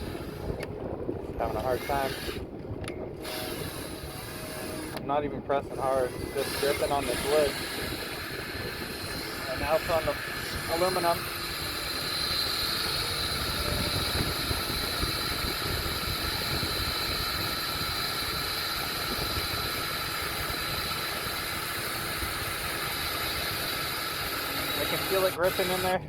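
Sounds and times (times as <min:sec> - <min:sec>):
power drill whining: 0:00.0 - 0:00.7, 0:01.5 - 0:05.0, 0:05.7 - 0:26.0.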